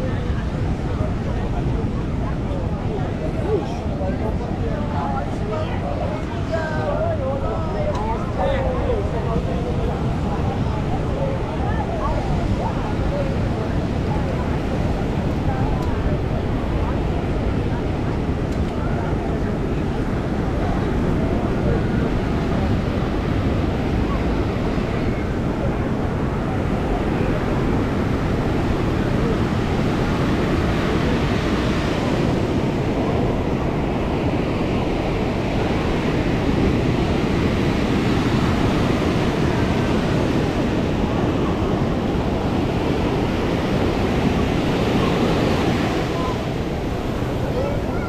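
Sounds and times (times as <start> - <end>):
ocean surf breaking on beach: 0.0 - 48.0
wind buffeting microphone: 0.0 - 48.0.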